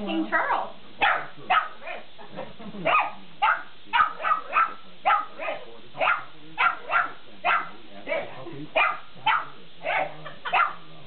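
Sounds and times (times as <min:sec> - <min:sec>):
dog barking: 0:00.3 - 0:02.1, 0:02.8 - 0:10.9.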